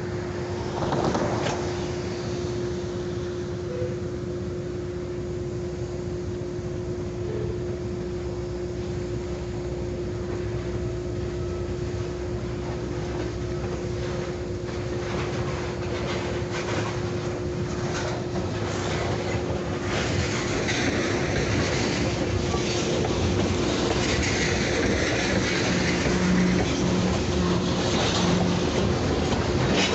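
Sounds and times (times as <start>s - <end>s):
rail cars clicking on track: 0.0s - 4.8s, 6.4s - 29.9s
diesel locomotive rumbling: 0.0s - 29.9s.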